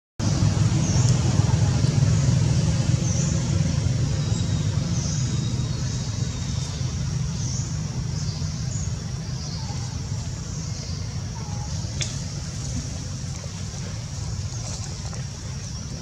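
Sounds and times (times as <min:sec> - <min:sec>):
low outdoor rumble: 0:00.2 - 0:16.0.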